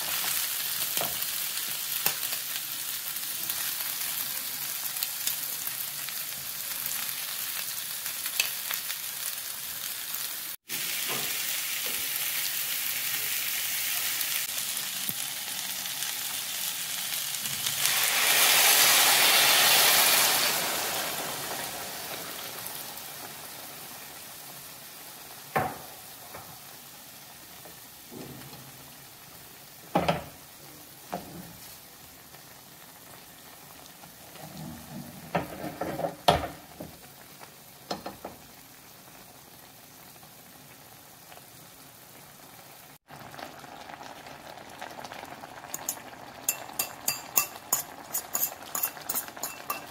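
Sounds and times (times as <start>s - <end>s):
food sizzling in a pan: 0.0s - 49.9s.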